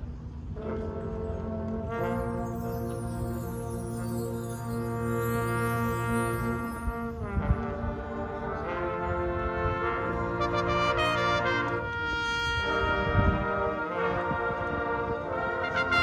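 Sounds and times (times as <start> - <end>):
brass sustained chords: 0.0 - 16.0.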